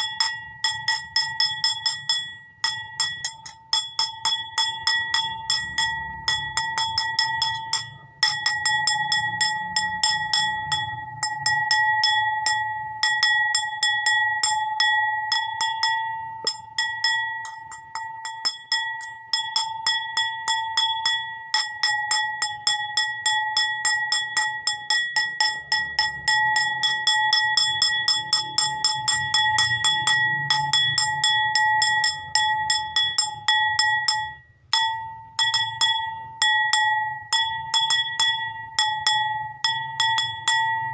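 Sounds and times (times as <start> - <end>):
bowl struck rapidly and ringing: 0.0 - 40.9.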